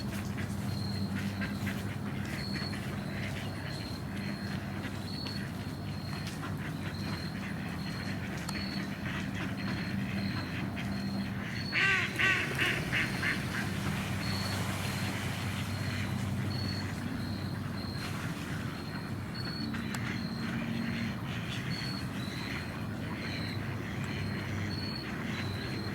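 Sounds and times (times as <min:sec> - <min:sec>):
ducks quacking: 0:00.3 - 0:25.9.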